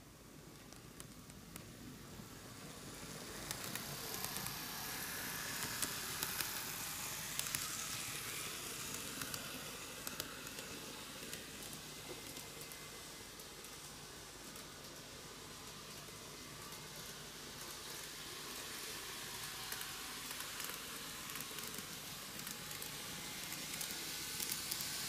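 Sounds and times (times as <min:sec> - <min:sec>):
model train running on track: 0:02.0 - 0:25.0.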